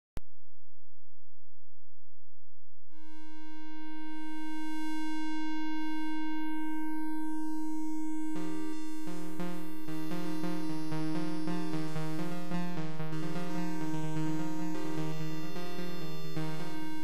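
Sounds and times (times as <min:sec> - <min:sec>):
buzzy sawtooth synth tone: 0:03.0 - 0:17.0
faint low synth drone: 0:03.0 - 0:17.0.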